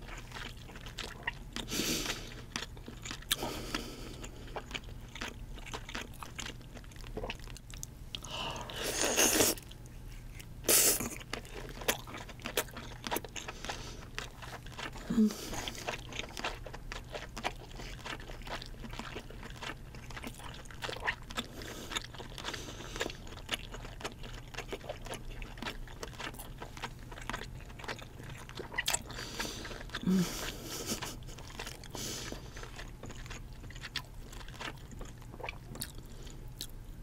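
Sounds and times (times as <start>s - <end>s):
wet chewing clicks and smacks: 0.0s - 8.3s, 11.1s - 36.8s.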